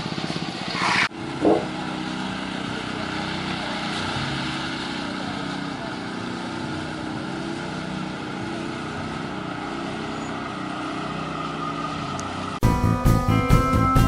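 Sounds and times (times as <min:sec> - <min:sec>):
heavy machinery engine droning: 0:00.0 - 0:12.8.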